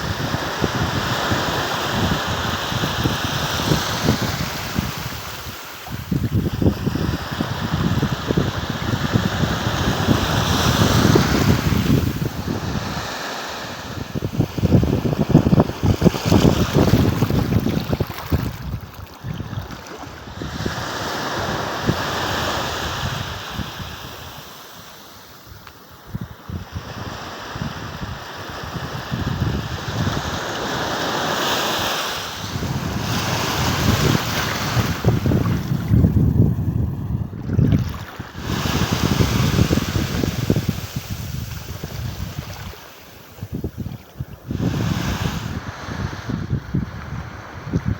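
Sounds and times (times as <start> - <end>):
low gusty wind rumble: 0.0 - 24.0, 32.4 - 47.9
ocean waves breaking: 0.0 - 25.1, 30.0 - 46.2.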